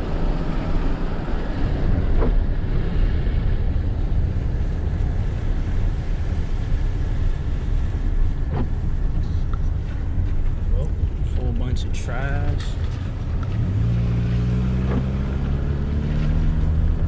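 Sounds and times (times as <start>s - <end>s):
wind buffeting microphone: 0.0s - 15.9s
tyre road noise: 0.0s - 17.0s.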